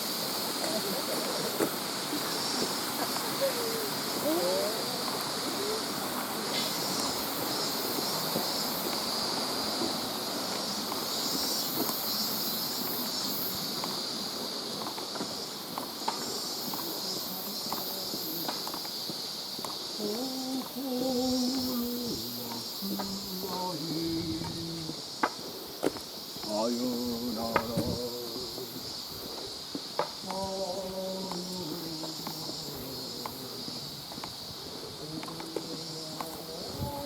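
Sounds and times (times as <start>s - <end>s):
constant high-pitched buzz: 0.0s - 37.0s
even hiss: 0.0s - 37.0s.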